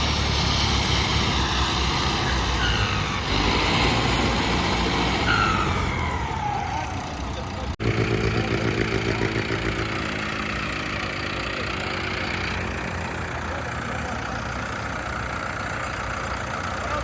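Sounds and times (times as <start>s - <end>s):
tractor diesel engine: 0.0s - 17.0s.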